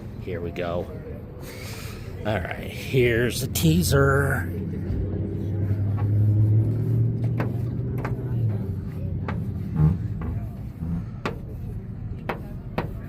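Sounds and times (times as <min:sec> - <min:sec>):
car engine running: 0:02.3 - 0:13.0.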